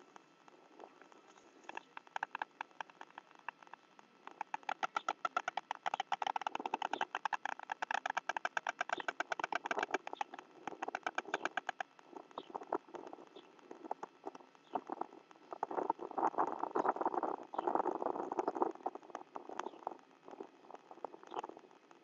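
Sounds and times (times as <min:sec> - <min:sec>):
stork bill-clattering rattle: 0:01.1 - 0:19.8.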